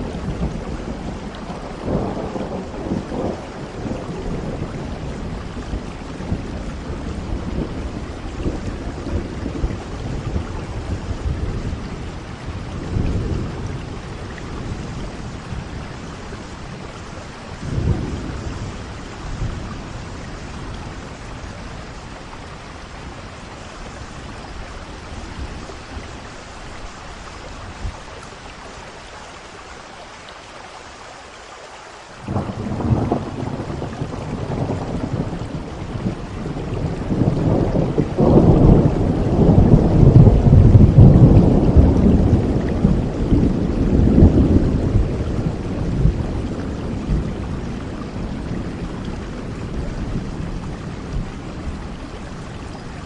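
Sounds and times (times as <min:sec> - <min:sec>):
rolling thunder: 0:00.0 - 0:28.0, 0:32.2 - 0:53.0
steady rain: 0:00.0 - 0:53.0.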